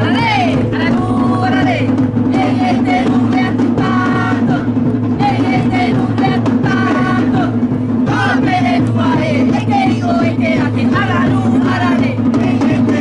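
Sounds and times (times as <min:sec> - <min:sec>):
drums: 0:00.0 - 0:13.0
voices singing: 0:00.0 - 0:13.0.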